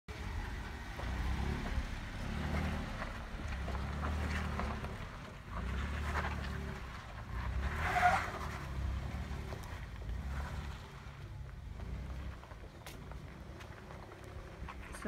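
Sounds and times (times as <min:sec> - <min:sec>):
engine running at low revs: 0:00.1 - 0:15.0.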